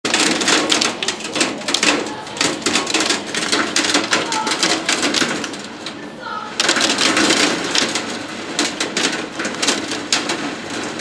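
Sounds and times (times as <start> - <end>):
hail and rain on window: 0.1 - 11.0.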